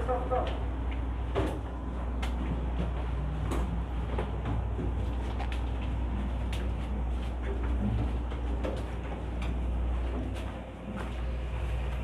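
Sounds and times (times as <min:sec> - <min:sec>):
footsteps on stairs: 0:00.0 - 0:12.0
low machinery drone: 0:00.0 - 0:12.0.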